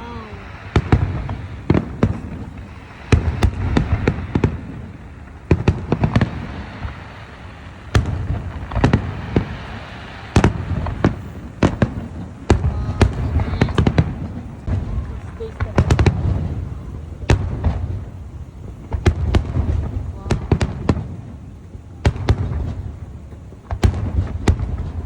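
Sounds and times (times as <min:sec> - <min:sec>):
fireworks bursting in sharp bangs: 0:00.0 - 0:25.0.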